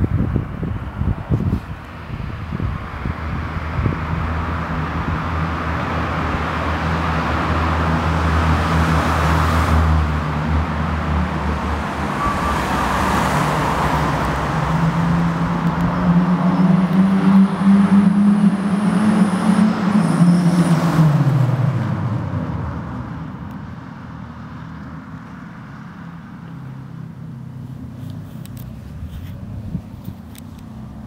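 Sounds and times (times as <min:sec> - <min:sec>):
car accelerating with loud exhaust: 0:00.0 - 0:31.0.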